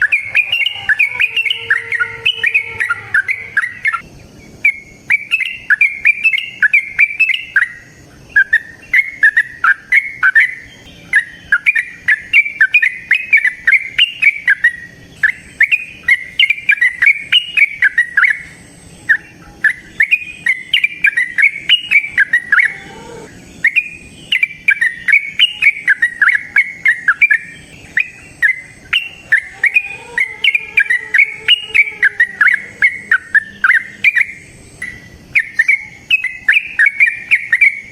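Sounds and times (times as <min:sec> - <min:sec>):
bulbul singing chattering notes: 0:00.0 - 0:37.9.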